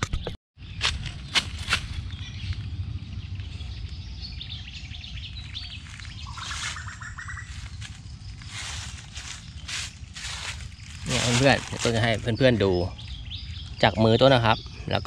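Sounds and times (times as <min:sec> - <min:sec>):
birds chirping: 0:00.6 - 0:15.0
steady low rumble: 0:00.6 - 0:15.0.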